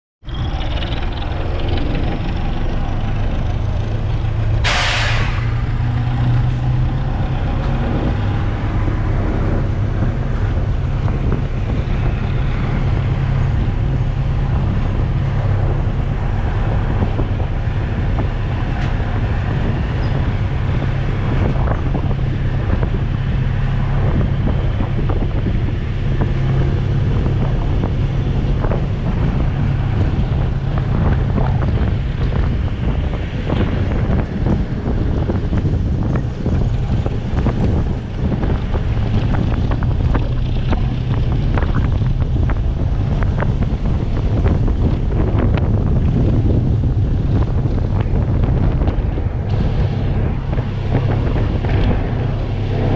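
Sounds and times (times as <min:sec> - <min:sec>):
locomotive humming: 0:00.2 - 0:52.9.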